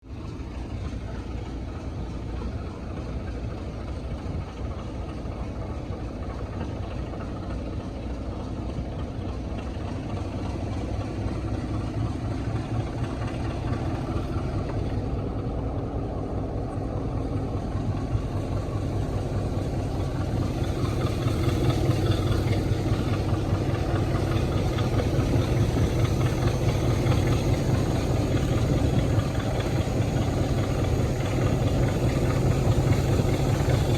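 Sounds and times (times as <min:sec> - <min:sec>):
diesel locomotive engine throbbing: 0:00.0 - 0:33.9.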